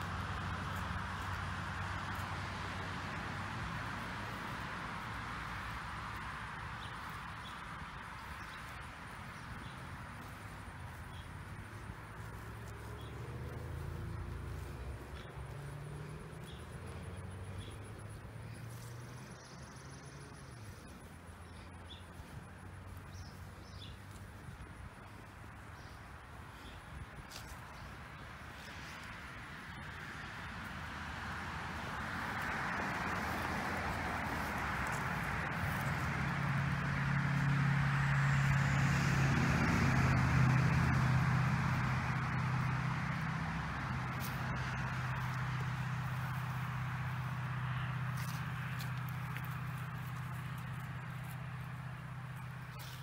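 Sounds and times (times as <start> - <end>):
engine hum: 0.0 - 53.0.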